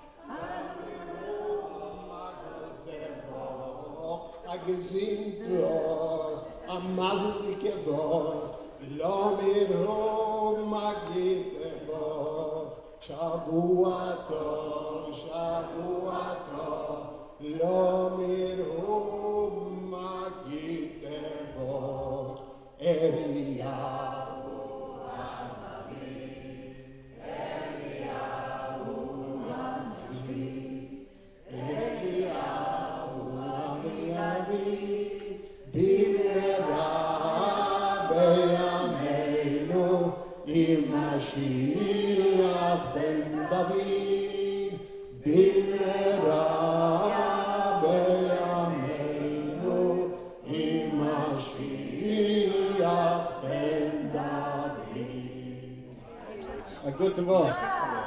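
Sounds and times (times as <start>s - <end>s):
voices singing unaccompanied: 0.0s - 58.0s.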